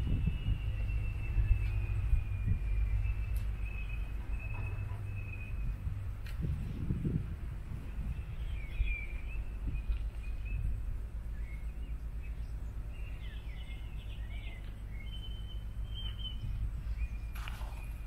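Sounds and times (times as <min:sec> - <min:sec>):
small birds chirping: 0:00.0 - 0:06.3, 0:07.6 - 0:18.0
steady low rumble: 0:00.0 - 0:18.0.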